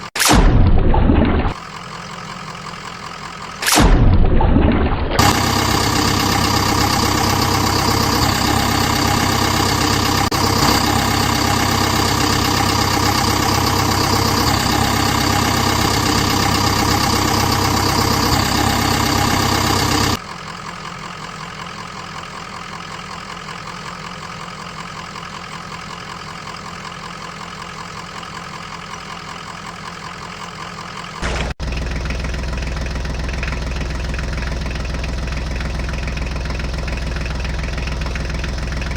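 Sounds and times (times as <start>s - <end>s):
tractor engine idling: 1.2s - 3.8s, 4.6s - 38.9s.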